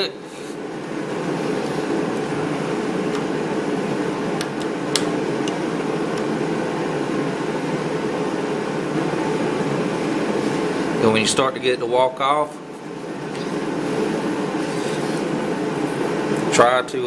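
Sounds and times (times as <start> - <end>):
blower whirring hum: 0.0 - 17.0.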